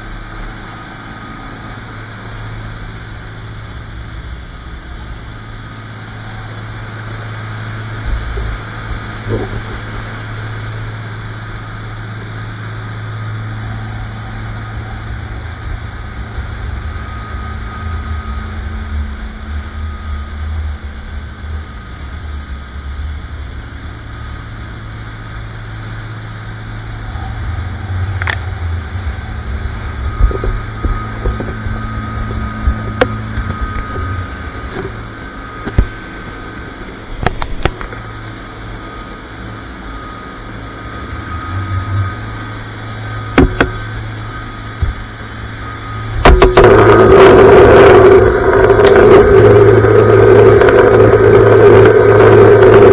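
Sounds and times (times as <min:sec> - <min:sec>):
boat engines droning: 0:00.0 - 0:52.9
water rushing off hull: 0:00.0 - 0:52.9.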